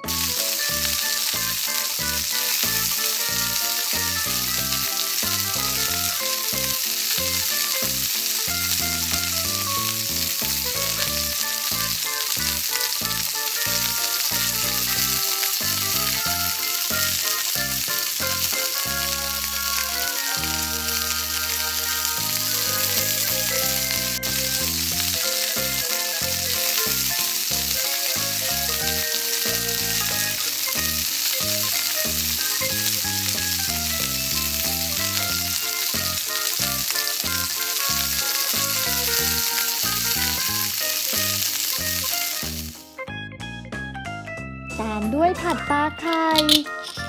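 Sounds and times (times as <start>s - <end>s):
food sizzling in hot oil: 0.0s - 43.0s, 44.8s - 47.0s
simple background tune: 0.0s - 47.0s.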